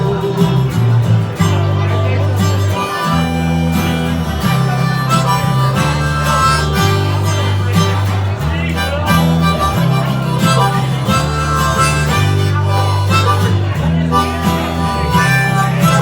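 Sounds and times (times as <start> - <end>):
bass guitar: 0.0 - 16.0
harmonica solo: 0.0 - 16.0
strummed guitar: 0.0 - 16.0.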